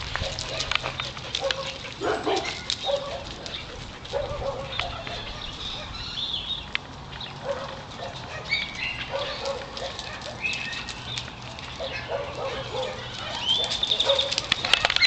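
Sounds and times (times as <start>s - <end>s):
dogs barking and yelping: 0.0s - 6.3s, 7.4s - 15.0s.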